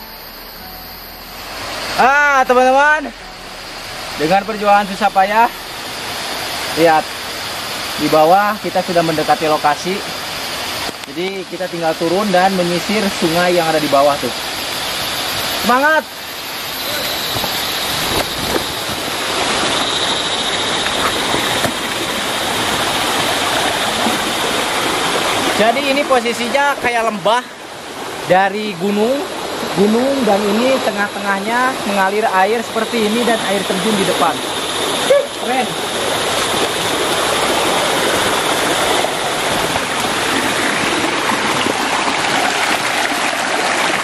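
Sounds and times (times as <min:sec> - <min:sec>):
mountain stream rushing: 0:00.0 - 0:44.0
waterfall: 0:00.0 - 0:44.0.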